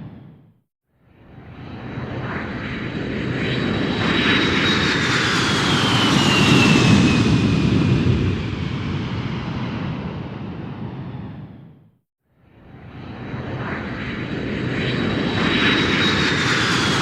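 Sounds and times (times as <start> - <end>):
jet airliner flying past: 0.0 - 0.5, 1.1 - 11.9, 12.5 - 17.0.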